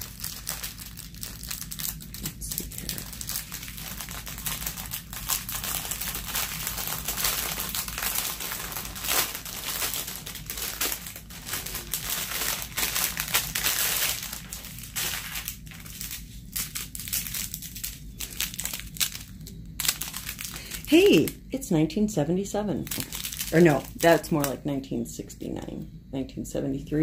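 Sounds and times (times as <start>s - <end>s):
plastic packaging crinkling: 0.0s - 21.5s, 22.8s - 24.6s.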